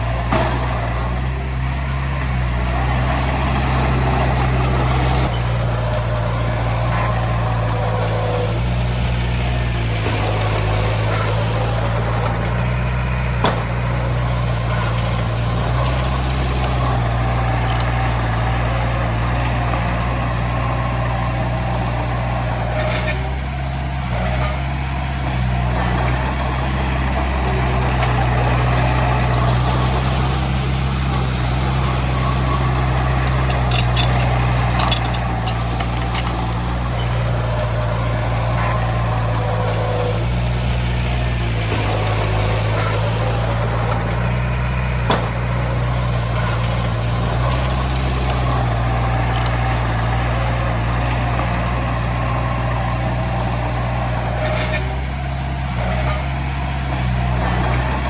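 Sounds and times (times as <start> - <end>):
heavy diesel machinery running: 0.0 - 58.0
metallic clanks: 2.2 - 23.4, 24.2 - 58.0.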